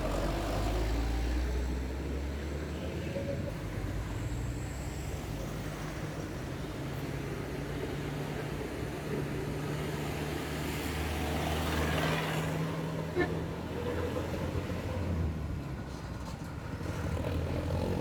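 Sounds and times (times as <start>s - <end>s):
large vehicle engine humming: 0.0s - 18.0s
road noise: 0.0s - 18.0s.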